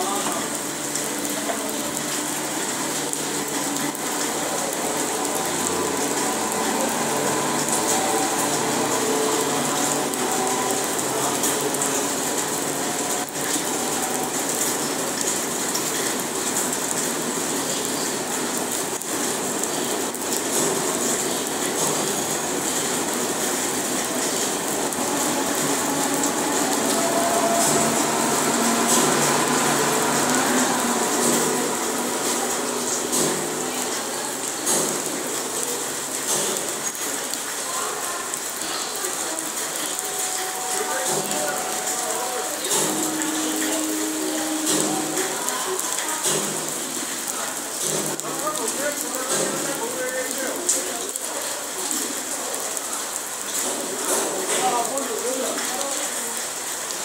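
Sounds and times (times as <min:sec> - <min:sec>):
passenger train rolling past: 0:00.0 - 0:48.6.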